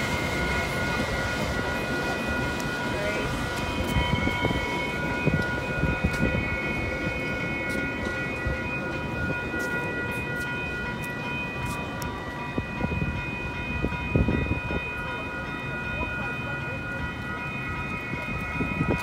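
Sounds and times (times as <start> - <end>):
crossing bell ringing: 0.0 - 19.0
train rumbling past: 0.0 - 19.0.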